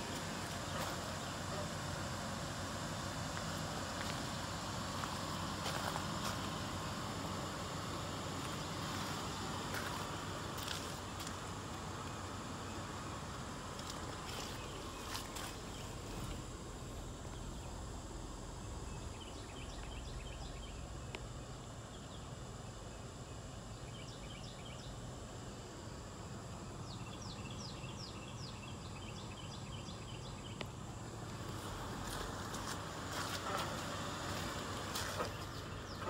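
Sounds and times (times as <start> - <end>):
low outdoor rumble: 0.0 - 36.0
songbird chirping: 0.0 - 36.0.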